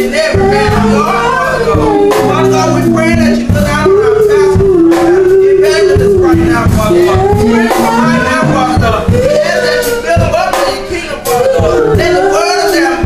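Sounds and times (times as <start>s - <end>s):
instrumental backing with beat: 0.0s - 13.0s
man singing sliding notes: 0.0s - 13.0s.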